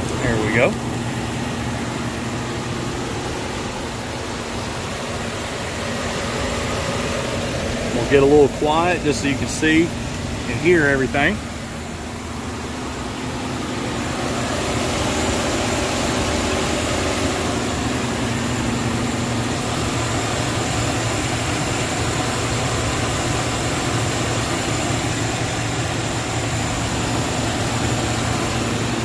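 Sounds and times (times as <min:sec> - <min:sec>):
pickup truck engine idling: 0:00.0 - 0:29.0.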